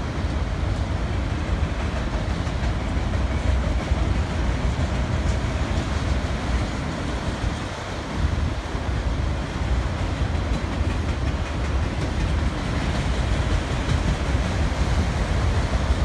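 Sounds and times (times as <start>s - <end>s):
freight train wheels rumbling: 0.0s - 16.0s
clatter over rail joints: 0.8s - 7.8s, 9.9s - 16.0s.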